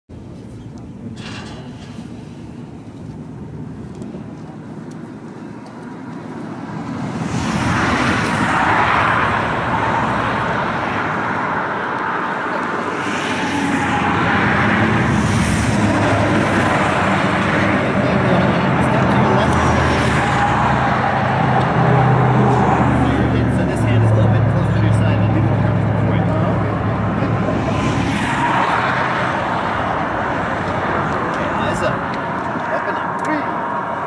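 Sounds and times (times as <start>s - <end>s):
highway traffic rushing: 0.1s - 34.0s.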